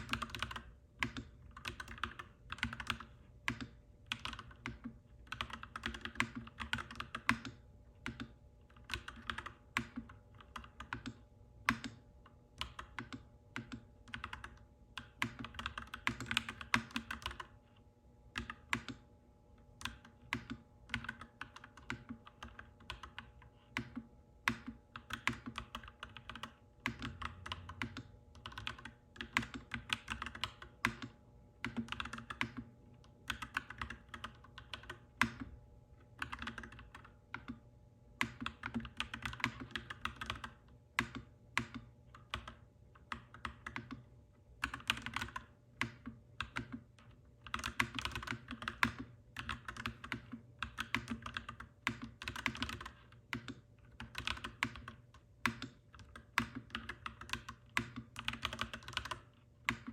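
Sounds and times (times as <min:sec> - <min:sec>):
mechanical keyboard typing: 0:00.0 - 0:17.6, 0:18.3 - 0:19.1, 0:19.8 - 0:37.6, 0:38.2 - 0:59.9
faint steady hum: 0:00.0 - 0:59.9.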